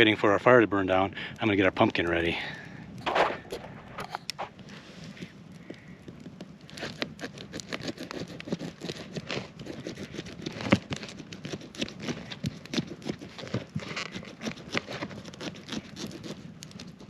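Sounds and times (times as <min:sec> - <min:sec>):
scraping and crunching pumpkin: 0:01.6 - 0:05.2, 0:06.1 - 0:17.0.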